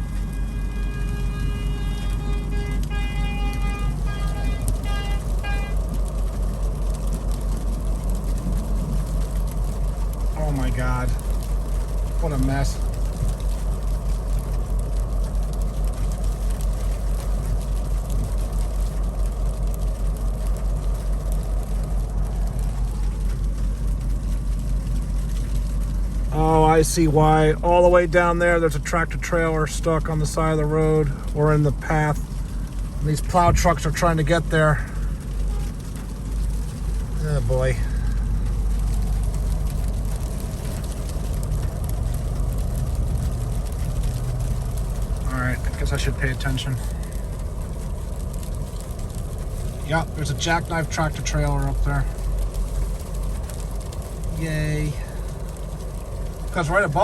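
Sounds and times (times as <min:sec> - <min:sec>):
low rumble inside car cabin: 0:00.0 - 0:57.0.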